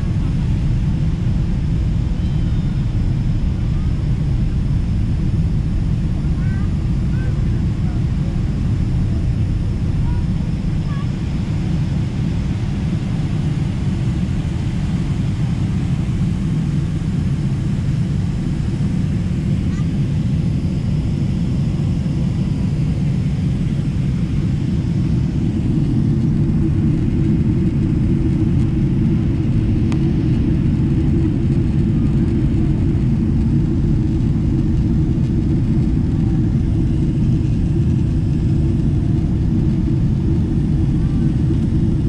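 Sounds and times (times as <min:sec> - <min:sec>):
airplane cabin engine rumble: 0:00.0 - 0:42.0.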